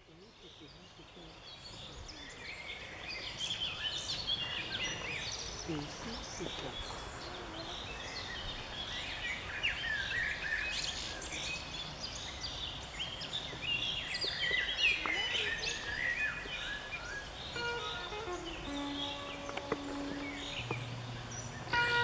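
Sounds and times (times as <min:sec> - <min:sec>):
wild birds chirping and whistling: 0:00.1 - 0:22.0.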